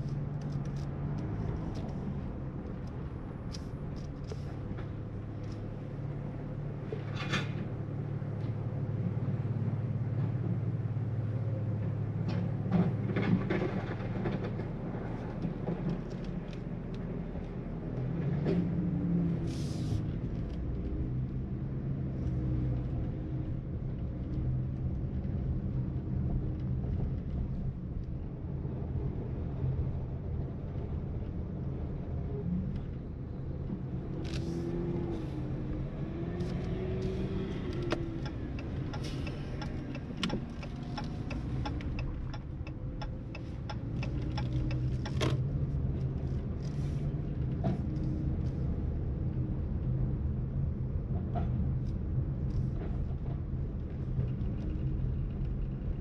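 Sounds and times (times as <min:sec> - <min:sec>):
car engine and tyre hum: 0:00.0 - 0:56.0.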